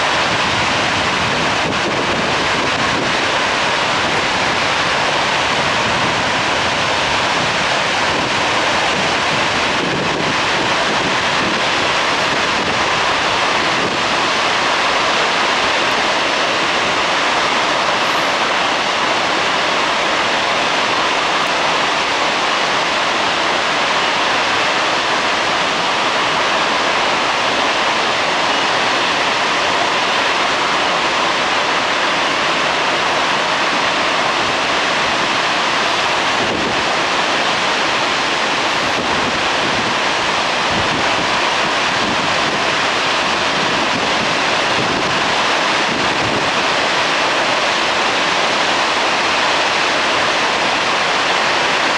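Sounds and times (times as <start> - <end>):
rush of falling water: 0.0 - 51.9.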